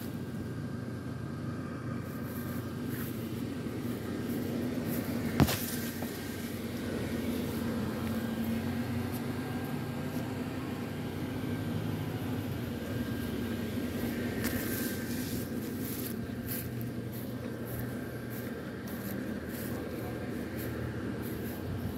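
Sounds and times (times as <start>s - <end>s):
electric blower fan humming: 0.0s - 21.9s.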